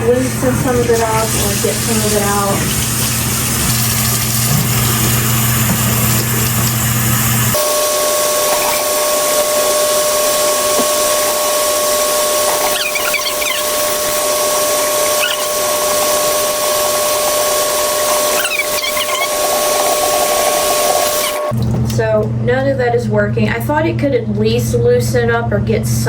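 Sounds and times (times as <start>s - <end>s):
tap water running: 0.0s - 22.3s.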